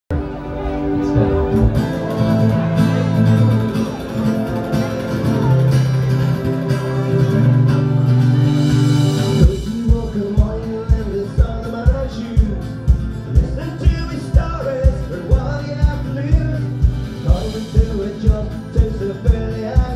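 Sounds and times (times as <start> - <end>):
guitars strummed: 0.1 - 19.9
steady drum beat: 1.1 - 19.9.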